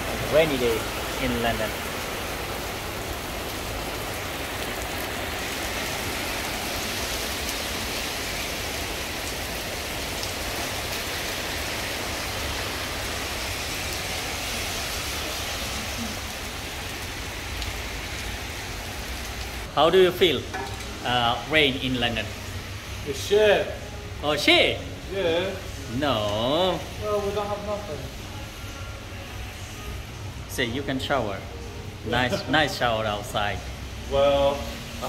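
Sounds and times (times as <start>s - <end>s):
heavy rain on pavement: 0.0s - 35.0s.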